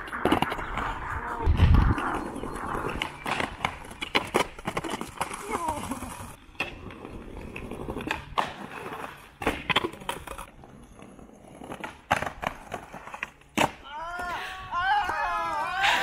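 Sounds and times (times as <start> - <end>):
skateboard rolling over pavement: 0.0 - 13.8
skateboard popping and landing: 0.0 - 14.3.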